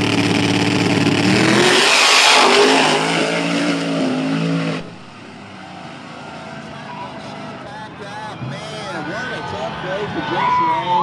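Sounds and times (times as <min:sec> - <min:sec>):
drag car engine accelerating: 0:00.0 - 0:09.4
loud rush of noise: 0:00.0 - 0:11.0.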